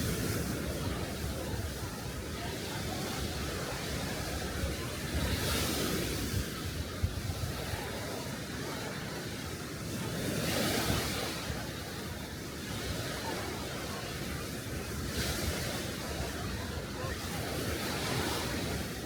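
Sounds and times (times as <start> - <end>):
waves washing on sand: 0.0 - 19.0.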